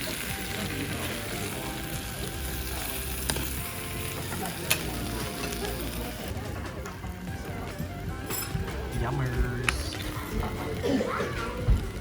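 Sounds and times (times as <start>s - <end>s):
faint background music: 0.0s - 12.0s
food sizzling in hot bowl: 0.0s - 12.0s.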